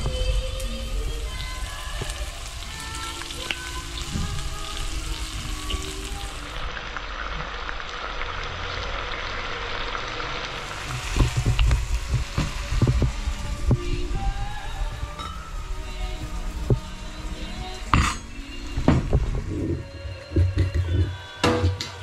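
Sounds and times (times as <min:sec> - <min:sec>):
vegetables sizzling in oil: 0:00.0 - 0:21.7.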